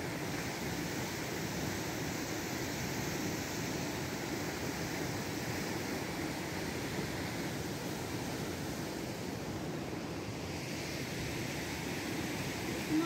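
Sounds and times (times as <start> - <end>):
fast-flowing stream rushing: 0.0 - 13.0.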